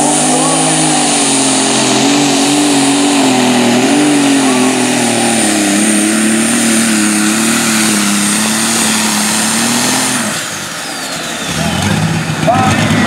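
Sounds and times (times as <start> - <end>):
high turbo whine: 0.0 - 13.0
tractor engine under load: 0.0 - 13.0.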